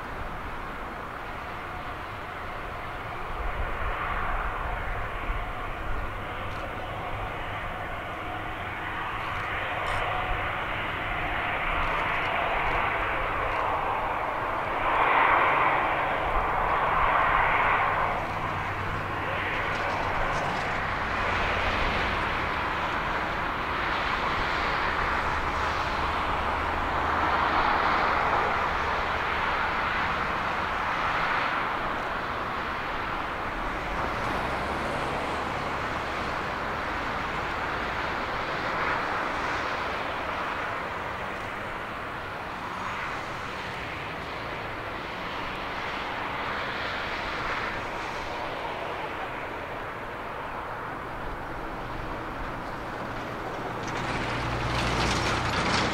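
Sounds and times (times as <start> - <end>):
jet engines at taxi power: 0.0 - 55.9.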